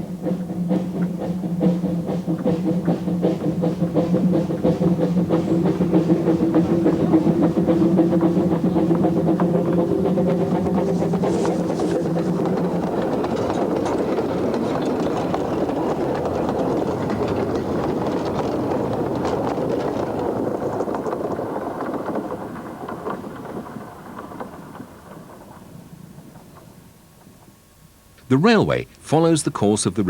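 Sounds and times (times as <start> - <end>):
train rattling along track: 0.0 - 30.0.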